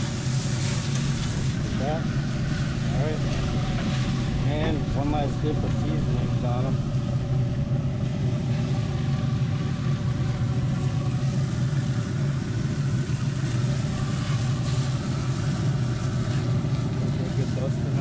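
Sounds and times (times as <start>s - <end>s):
grill fan humming: 0.0s - 18.0s.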